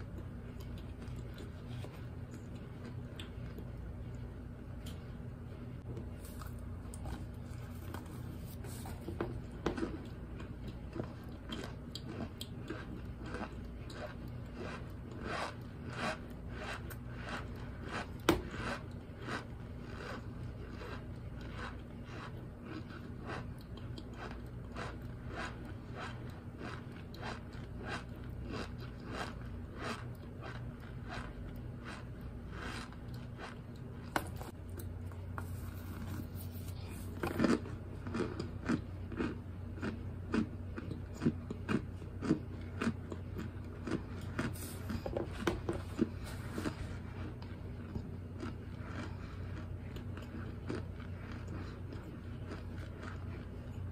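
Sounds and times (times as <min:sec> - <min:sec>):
person chewing and crunching: 0:00.0 - 0:05.1, 0:05.8 - 0:53.9.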